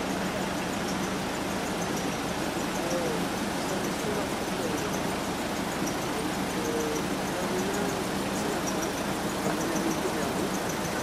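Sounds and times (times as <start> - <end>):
outdoor background rush: 0.0 - 11.0.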